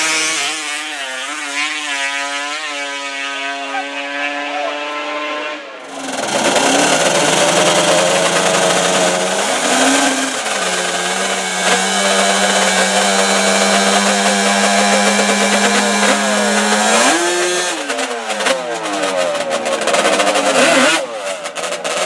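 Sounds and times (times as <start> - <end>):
atv engines revving: 0.0 - 22.0.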